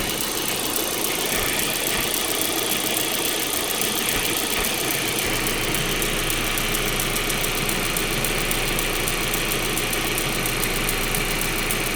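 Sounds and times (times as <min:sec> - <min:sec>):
car engine idling: 0:00.0 - 0:11.9
fast even ticking: 0:00.0 - 0:11.9.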